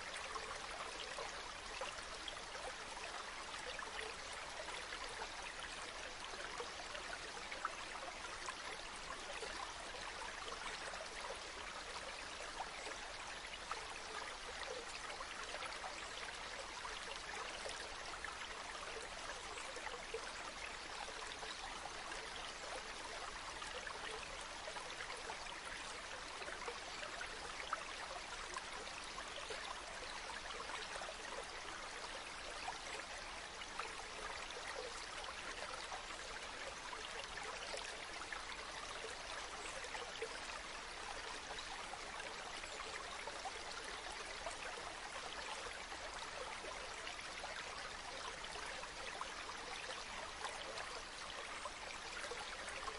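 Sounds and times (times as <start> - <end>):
river babbling: 0.0 - 52.9.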